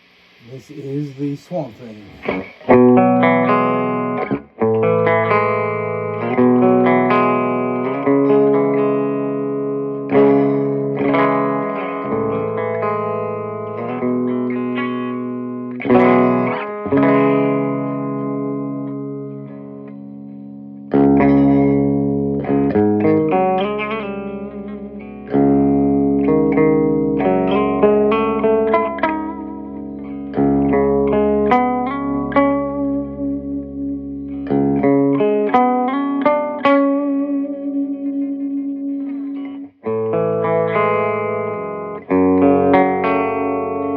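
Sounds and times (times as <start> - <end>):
electric guitar notes and chords: 0.0 - 43.9.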